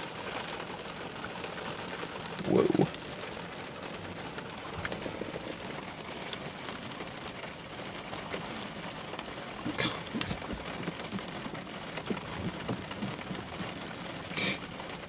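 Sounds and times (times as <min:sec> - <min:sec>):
light rain pattering on vehicle: 0:00.0 - 0:15.0.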